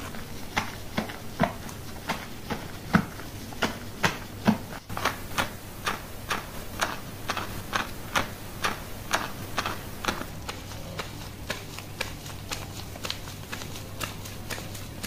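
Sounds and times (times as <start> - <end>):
hands scrubbing wet hair: 0.0 - 15.0.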